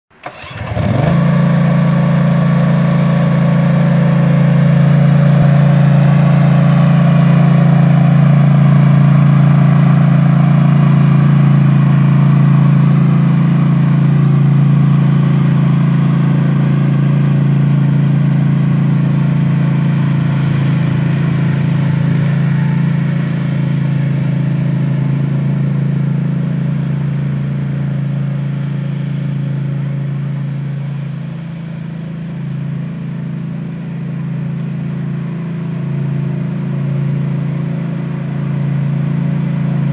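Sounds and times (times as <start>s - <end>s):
ride-on mower engine running: 0.1s - 39.9s.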